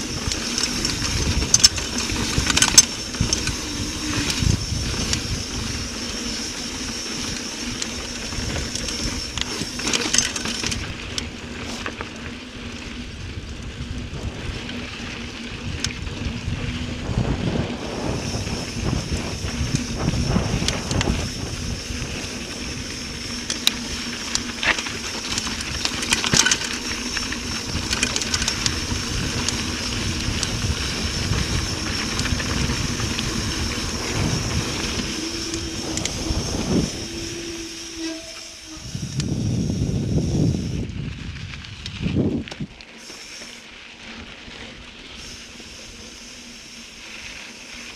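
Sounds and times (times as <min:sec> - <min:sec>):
wind buffeting microphone: 0:00.0 - 0:09.8, 0:12.9 - 0:42.8
bike rattling and knocking: 0:00.0 - 0:43.3
tyres rumbling on dirt: 0:00.0 - 0:47.9.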